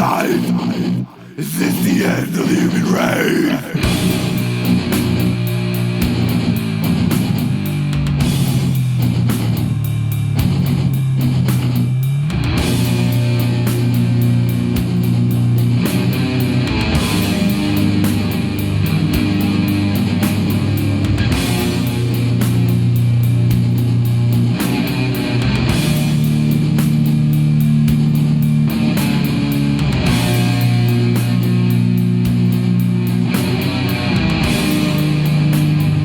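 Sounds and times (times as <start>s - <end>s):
distorted guitars and bass: 0.0s - 36.0s.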